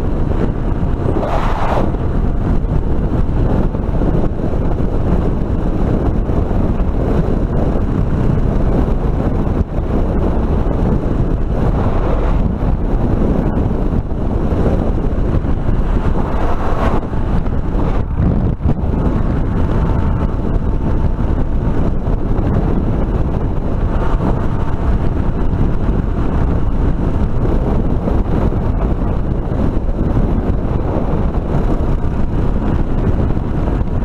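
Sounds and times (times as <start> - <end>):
wind noise on microphone: 0.0 - 34.0
motorcycle engine running: 2.0 - 34.0.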